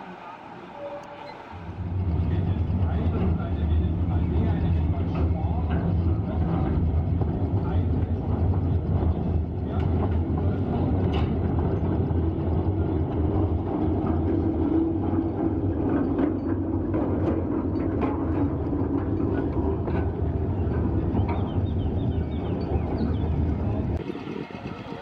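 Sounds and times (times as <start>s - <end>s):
locomotive low drone: 0.0s - 25.0s
wagons clanking over track: 1.0s - 25.0s.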